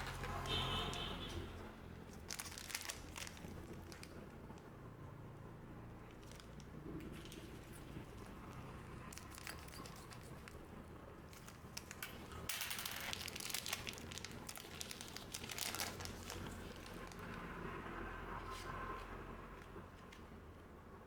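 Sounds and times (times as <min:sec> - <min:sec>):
plastic wrapper crinkling and tearing: 0:00.0 - 0:04.7, 0:06.0 - 0:19.1.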